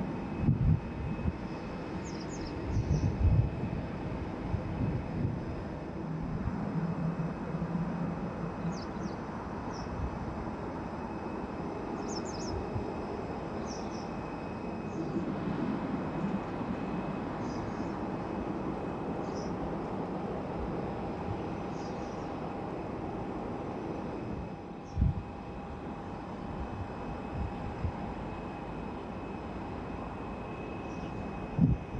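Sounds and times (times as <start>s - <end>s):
distant jet engine rumble: 0.0s - 31.9s
faint engine whine: 0.0s - 31.9s.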